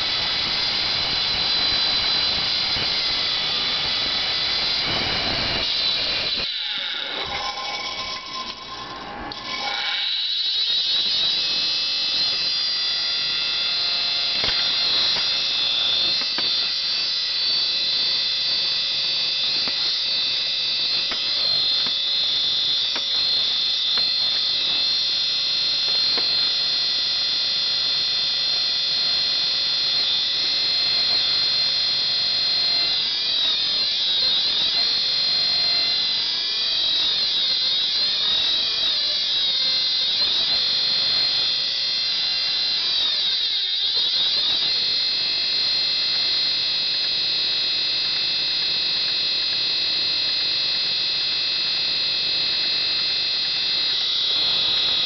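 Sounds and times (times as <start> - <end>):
hard disk drive high-pitched whine: 0.0 - 55.0.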